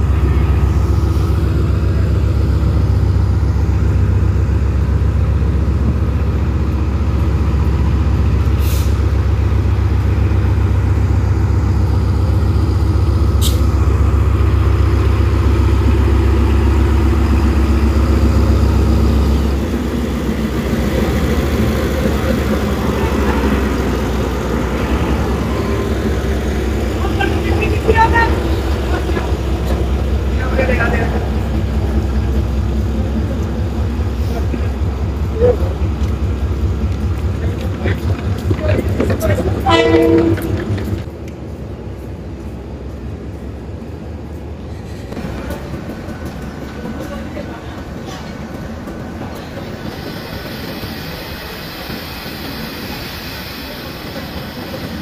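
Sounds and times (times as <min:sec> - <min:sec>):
diesel locomotive rumbling: 0:00.0 - 0:55.0.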